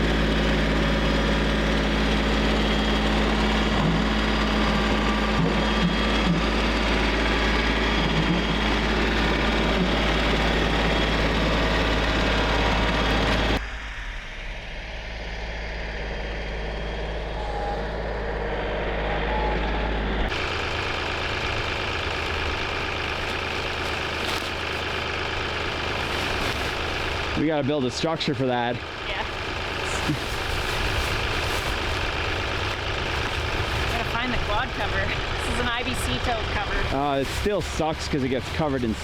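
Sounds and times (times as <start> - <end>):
vehicle engine idling: 0.0 - 13.6, 15.4 - 39.0.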